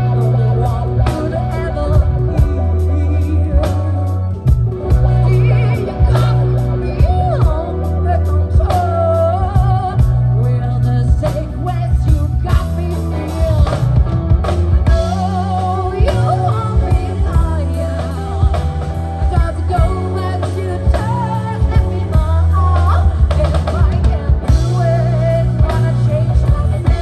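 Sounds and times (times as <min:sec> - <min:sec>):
rock song with vocals: 0:00.0 - 0:27.0.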